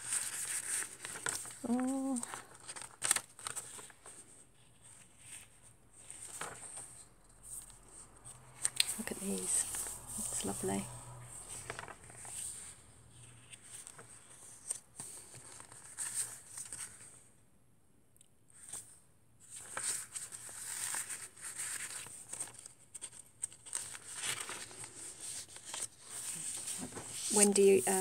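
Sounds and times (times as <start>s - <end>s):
paper and card rustling: 0.0s - 17.1s, 18.6s - 28.0s.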